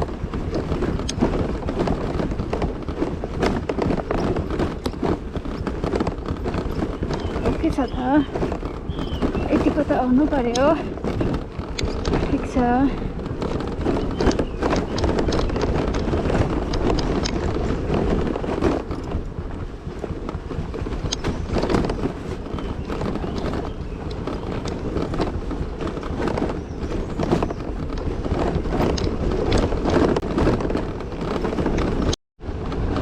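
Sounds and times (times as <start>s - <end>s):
scooter knocks and rattles: 0.0s - 33.0s
wind buffeting microphone: 0.0s - 33.0s.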